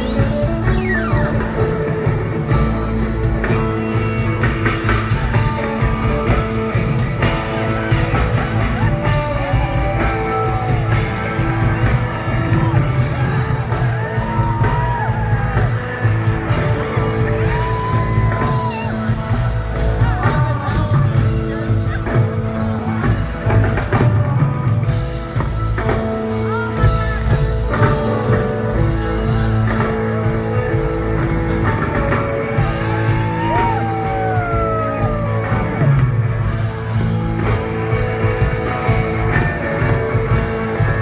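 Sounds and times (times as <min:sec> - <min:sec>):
rock band playing live: 0:00.0 - 0:41.0
sliding lead guitar line: 0:00.0 - 0:41.0.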